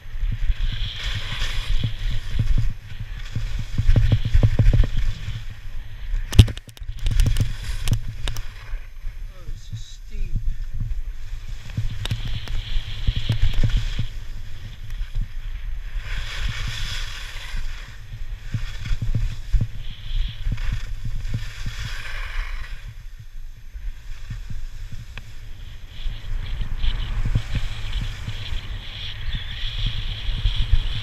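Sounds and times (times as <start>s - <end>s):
skis scraping over snow: 0.0s - 31.0s
wind buffeting microphone: 0.0s - 31.0s.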